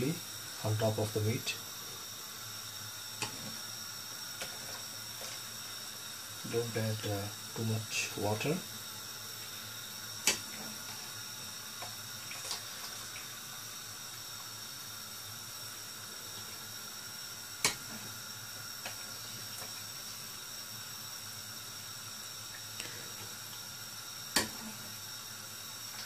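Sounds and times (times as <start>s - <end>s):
water boiling: 0.0s - 26.0s.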